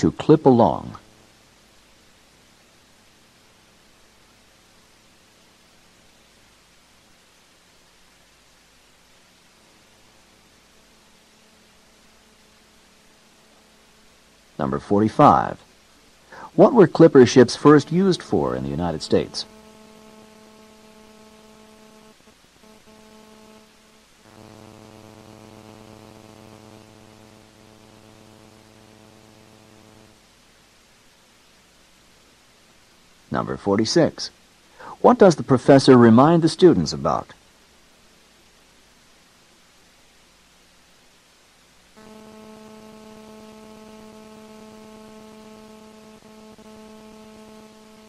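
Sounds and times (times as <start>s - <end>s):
electrical hum and buzz: 0.0s - 48.0s
soft hiss: 0.0s - 48.0s.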